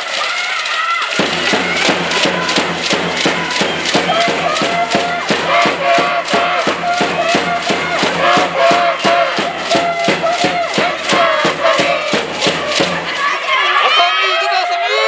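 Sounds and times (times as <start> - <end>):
fast rhythmic drum beating: 1.1 - 13.8
crowd chanting in unison: 1.2 - 15.0.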